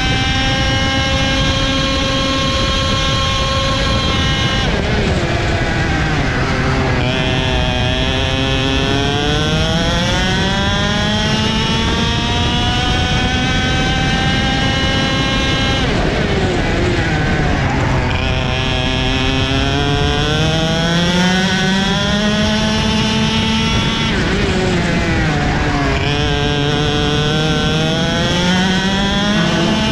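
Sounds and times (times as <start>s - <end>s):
kart engine revving: 0.0s - 29.9s.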